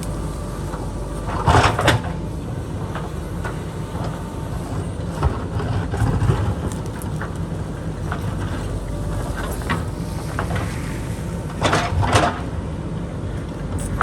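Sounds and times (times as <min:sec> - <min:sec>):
diesel engine running under load: 0:00.0 - 0:14.0.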